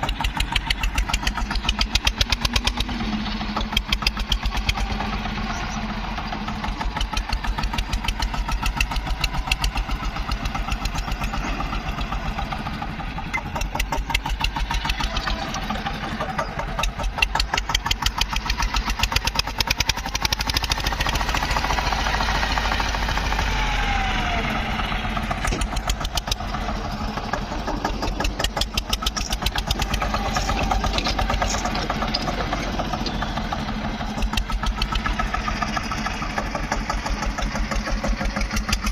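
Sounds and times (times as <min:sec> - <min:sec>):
tractor diesel engine knocking: 0:00.0 - 0:38.9.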